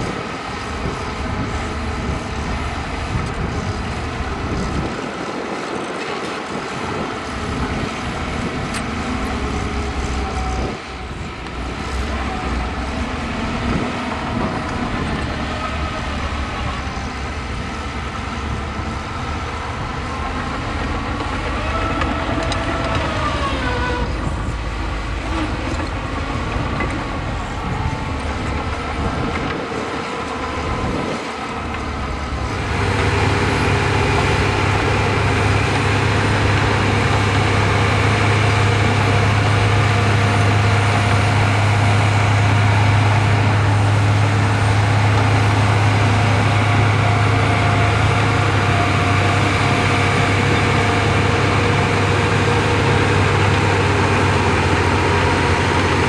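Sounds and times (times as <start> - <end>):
heavy diesel engines running: 0.0 - 56.0
low engine drone: 0.0 - 56.0.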